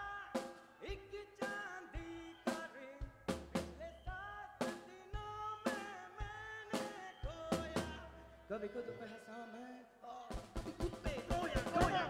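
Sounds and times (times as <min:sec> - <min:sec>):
drum kit beat: 0:00.0 - 0:08.6, 0:10.3 - 0:12.0.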